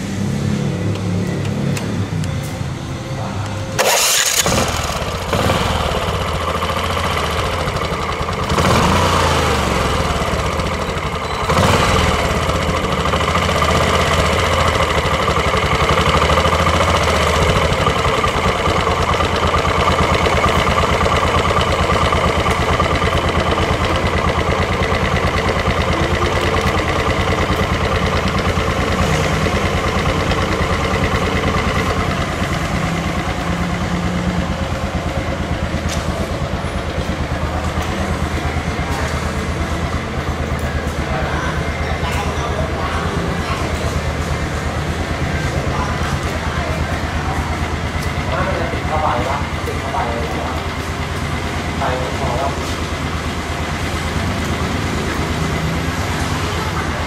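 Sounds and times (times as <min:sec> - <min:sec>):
scooter engine starting and revving: 0:00.0 - 0:03.0, 0:03.6 - 0:57.0.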